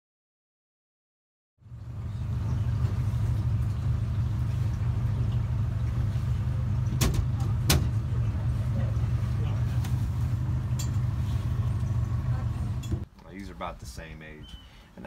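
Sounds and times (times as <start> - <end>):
boat motor humming: 1.6 - 15.0.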